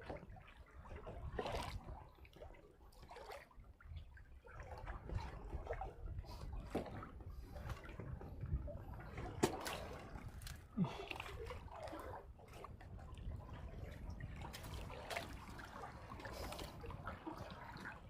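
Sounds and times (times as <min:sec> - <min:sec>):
water sloshing against boat hull: 0:00.0 - 0:18.0.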